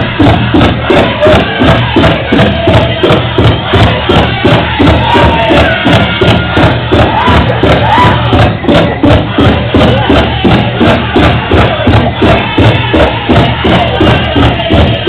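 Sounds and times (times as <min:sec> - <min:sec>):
big drum steady beat: 0:00.0 - 0:15.0.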